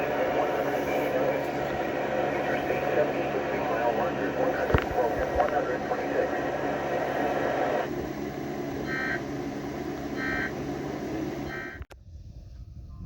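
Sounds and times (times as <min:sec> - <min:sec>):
steady rushing hiss: 0:00.0 - 0:11.6
faint hum: 0:00.0 - 0:13.0.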